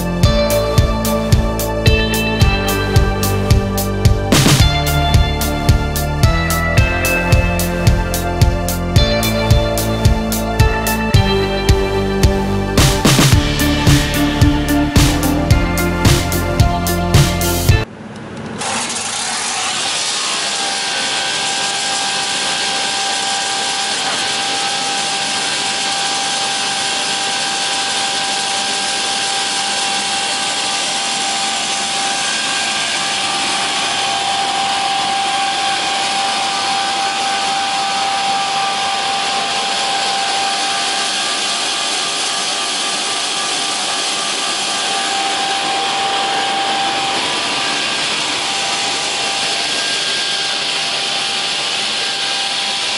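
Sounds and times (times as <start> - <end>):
saw machine whining: 0.0 - 52.9.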